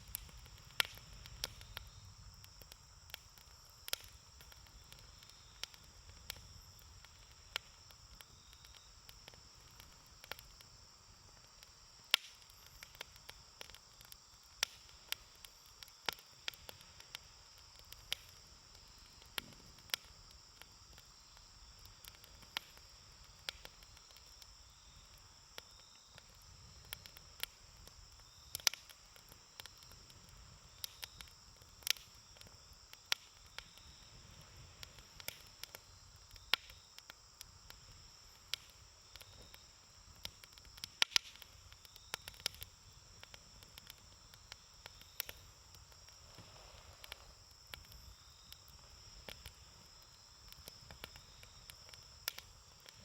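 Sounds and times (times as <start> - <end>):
campfire crackling: 0.0 - 53.0
high-pitched hiss: 0.0 - 53.0.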